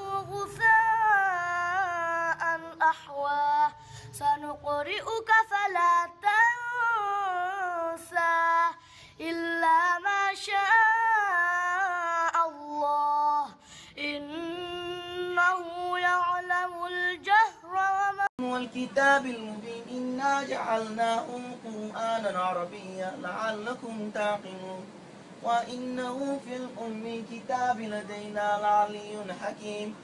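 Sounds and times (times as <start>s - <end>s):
boy chanting melodic recitation: 0.0s - 30.0s.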